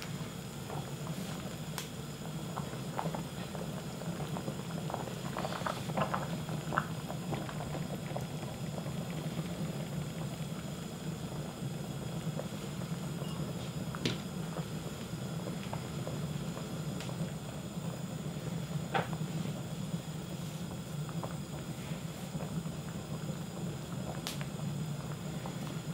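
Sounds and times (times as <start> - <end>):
steady low hum: 0.0 - 25.9
soup bubbles popping: 1.6 - 19.2, 20.8 - 25.9.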